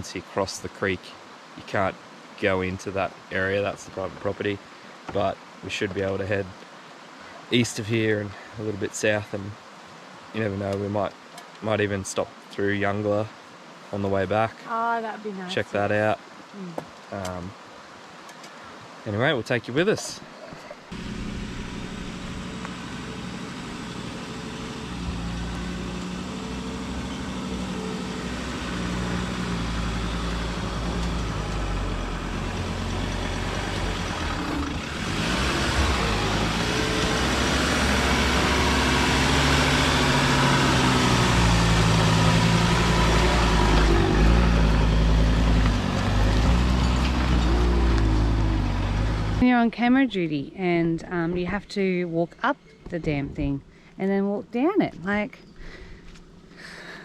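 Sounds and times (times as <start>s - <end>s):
engine hum: 0.0s - 6.6s, 7.2s - 9.6s, 10.3s - 13.3s, 15.5s - 16.2s, 16.8s - 57.0s
road and tyre noise: 0.0s - 53.6s, 54.6s - 57.0s.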